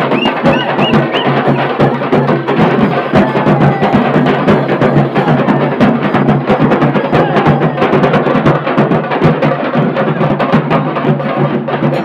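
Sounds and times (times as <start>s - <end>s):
dhol drums: 0.0s - 12.0s
tasha drums beaten with sticks: 0.0s - 12.0s.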